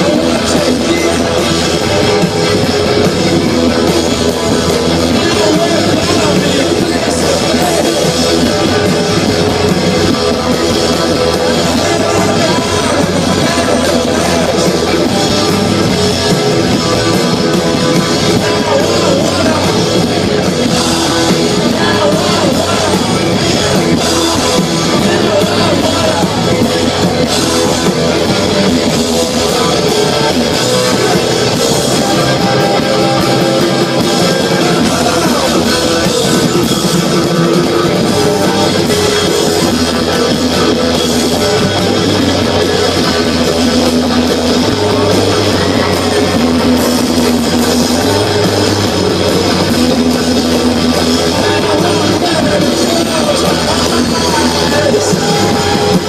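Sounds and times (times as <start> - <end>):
drum kit: 0.0 - 56.0
electric guitar: 0.0 - 56.0
punk rock band playing: 0.0 - 56.0.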